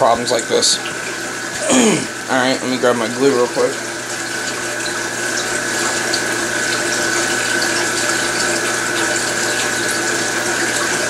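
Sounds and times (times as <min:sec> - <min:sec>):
circulation pump humming: 0:00.0 - 0:11.0
water flowing: 0:00.0 - 0:11.0.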